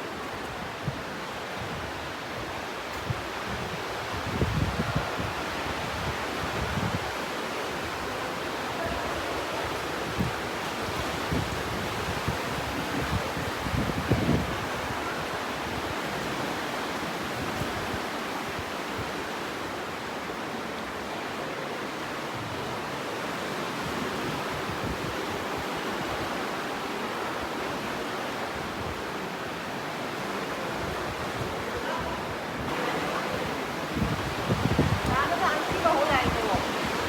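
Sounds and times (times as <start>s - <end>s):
river rushing through gorge: 0.0s - 37.0s.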